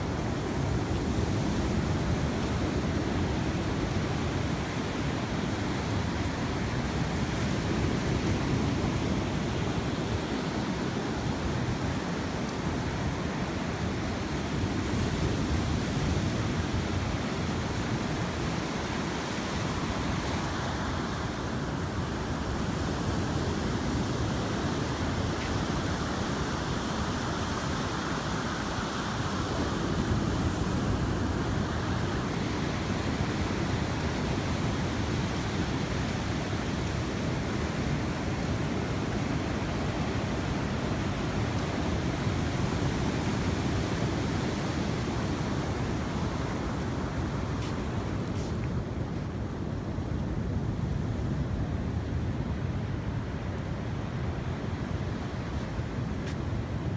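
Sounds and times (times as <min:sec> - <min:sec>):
sea waves on shore: 0:00.0 - 0:49.5.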